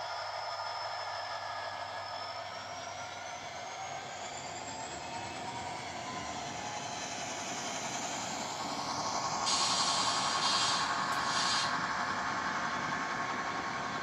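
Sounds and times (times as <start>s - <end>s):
model locomotive whine: 0.0s - 14.0s.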